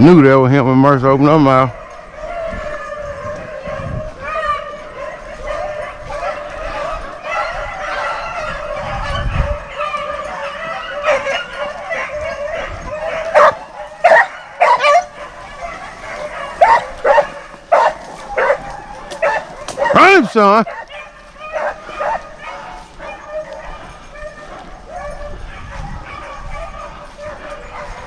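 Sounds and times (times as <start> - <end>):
hounds baying: 0.0 - 28.0
dogs bawling loudly: 1.5 - 28.0.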